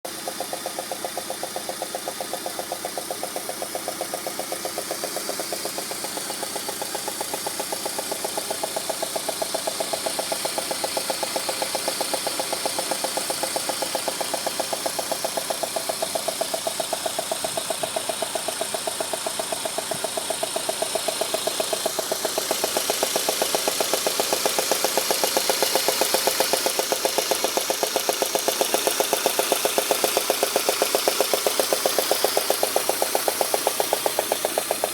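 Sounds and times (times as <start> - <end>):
fast regular engine knocking: 0.0 - 34.9
car engine idling: 0.1 - 34.9.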